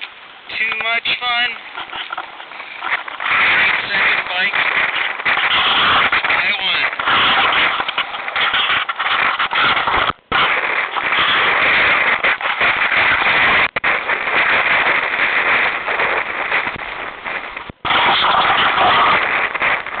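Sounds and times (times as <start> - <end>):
wind crackling on microphone: 0.0 - 20.0.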